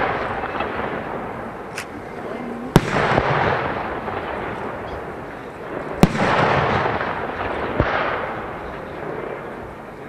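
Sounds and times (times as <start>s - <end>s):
firework bangs: 0.0s - 10.0s.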